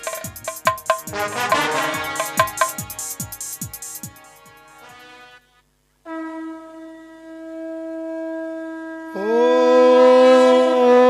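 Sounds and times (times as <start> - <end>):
conch shell blowing: 0.0 - 3.5, 4.6 - 11.0.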